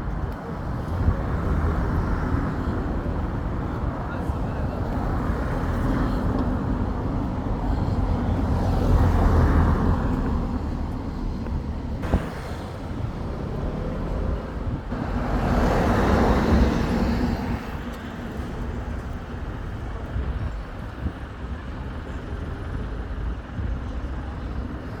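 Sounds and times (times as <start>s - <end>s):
traffic hum: 0.0s - 25.0s
vehicles passing close by: 0.0s - 25.0s.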